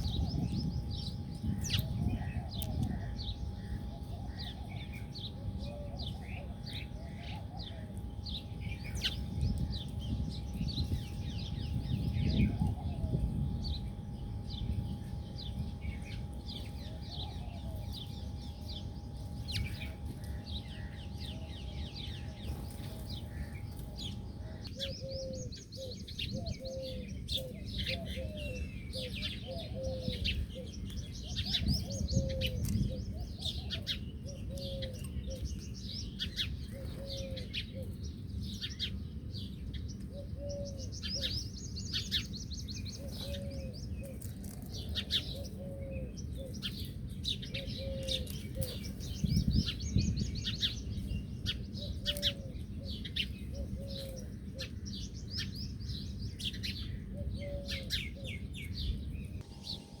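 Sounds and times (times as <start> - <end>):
steady low rumble: 0.0 - 36.8, 40.8 - 60.0
birds chirping: 0.0 - 60.0.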